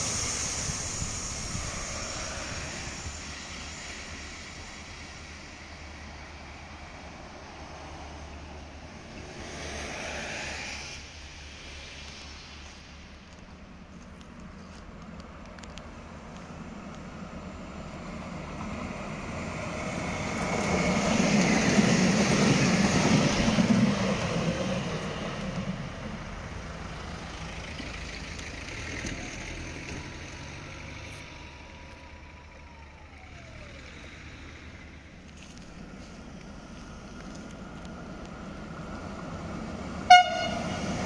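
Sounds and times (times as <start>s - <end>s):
train passing by: 0.0s - 41.0s.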